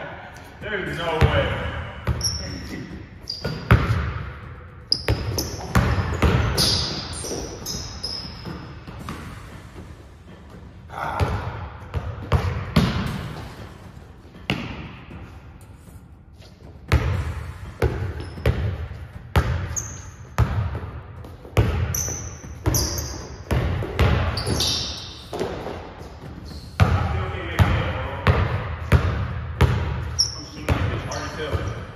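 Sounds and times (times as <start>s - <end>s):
basketball bouncing in gym: 0.5s - 15.7s, 16.4s - 31.9s
sneakers squeaking on court: 1.2s - 31.9s.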